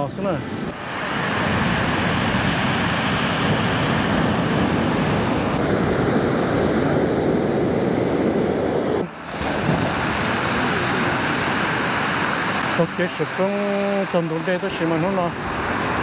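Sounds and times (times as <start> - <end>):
ocean surf rushing: 0.0 - 16.0
wind on microphone: 0.0 - 16.0.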